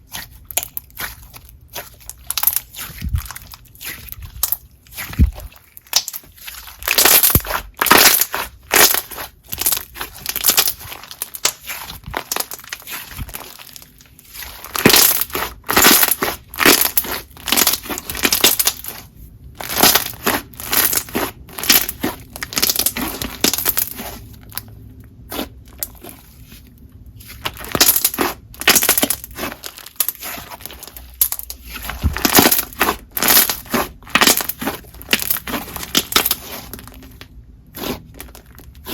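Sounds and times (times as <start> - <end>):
hands squishing slime: 0.0 - 38.9.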